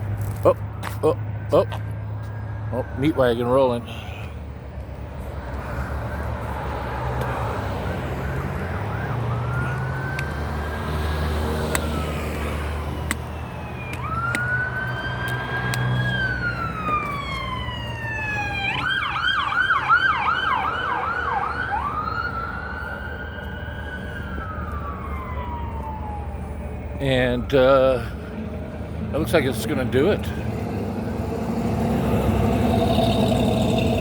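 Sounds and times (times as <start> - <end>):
emergency vehicle siren: 0.0 - 34.0
vehicle engine rumble: 0.0 - 34.0.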